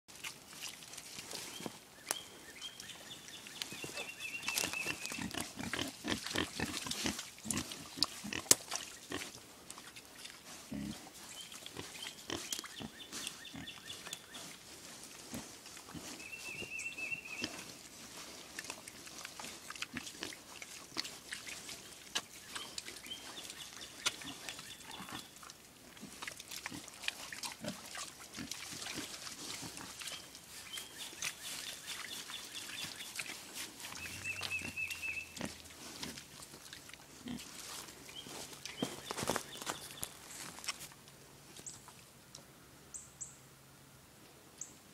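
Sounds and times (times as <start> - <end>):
scuffling in a pen: 0.1 - 42.1
young hogs grunting and snuffling: 0.1 - 42.8.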